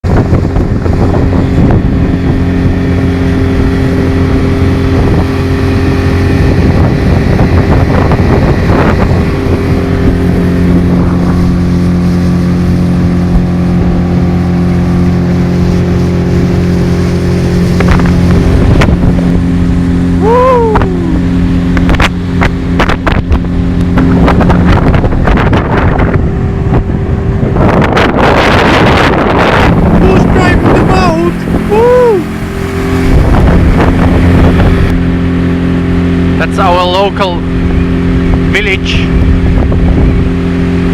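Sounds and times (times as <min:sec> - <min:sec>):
motorboat engine running: 0:00.0 - 0:40.9
wind buffeting microphone: 0:00.0 - 0:40.9
short falling whine: 0:00.1 - 0:40.9.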